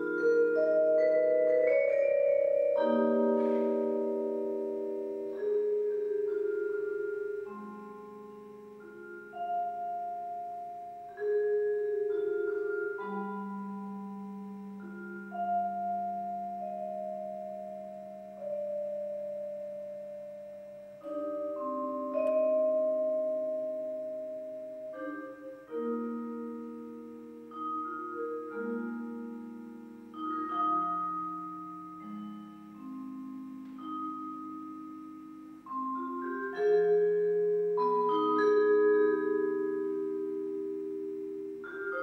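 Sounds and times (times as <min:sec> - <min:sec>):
vibraphone chords: 0:00.0 - 0:42.0.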